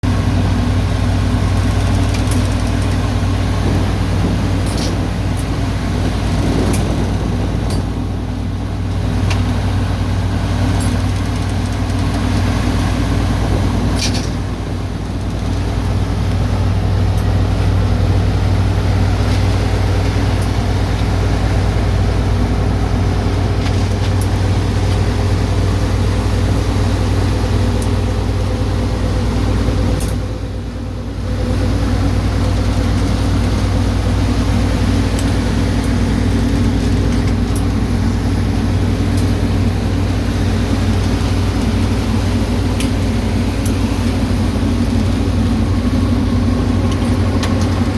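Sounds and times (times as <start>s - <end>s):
boat diesel engine humming: 0.0s - 47.9s.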